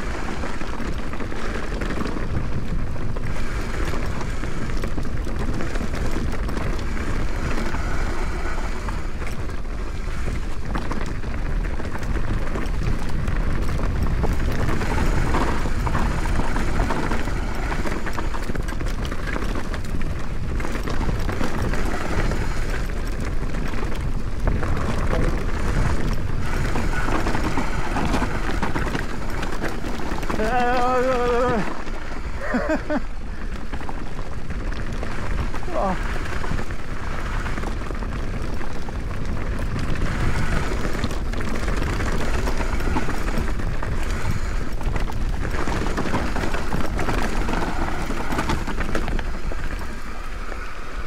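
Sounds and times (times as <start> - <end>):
bike rattling and knocking: 0.0 - 51.0
tyres rumbling on dirt: 0.0 - 51.0
wind on microphone: 0.0 - 51.0.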